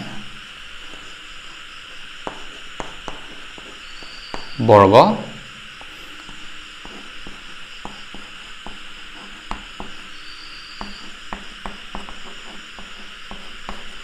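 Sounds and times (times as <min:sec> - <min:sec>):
steady high hiss: 0:00.0 - 0:14.0
chalk writing on blackboard: 0:00.8 - 0:04.6, 0:05.8 - 0:14.0.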